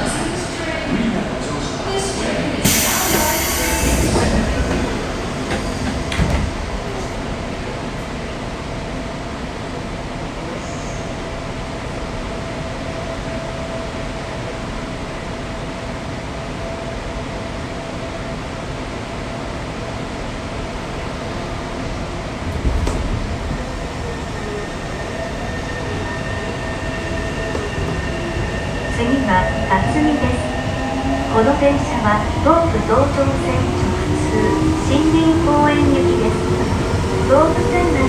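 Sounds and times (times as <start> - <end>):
subway car running noise: 0.0 - 38.0.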